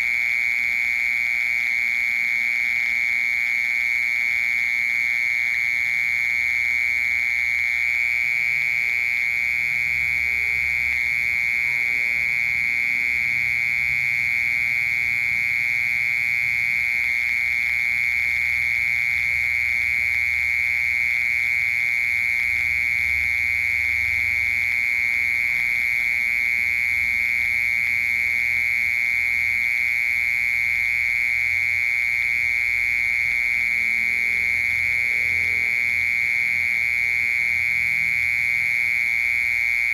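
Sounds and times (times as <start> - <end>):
mole cricket trilling: 0.0 - 39.9.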